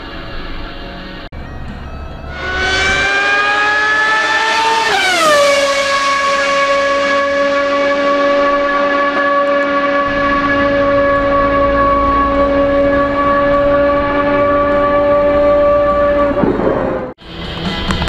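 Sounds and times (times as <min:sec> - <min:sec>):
car mechanical whine: 0:00.0 - 0:18.0.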